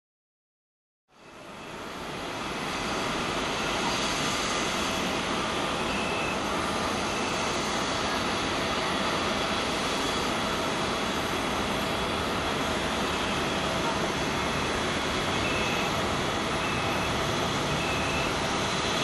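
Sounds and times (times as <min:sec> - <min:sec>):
jet engines at take-off power: 0:01.1 - 0:19.0.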